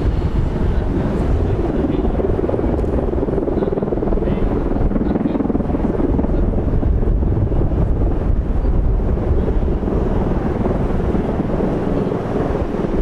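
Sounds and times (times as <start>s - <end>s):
tiltrotor aircraft drone: 0.0s - 13.0s.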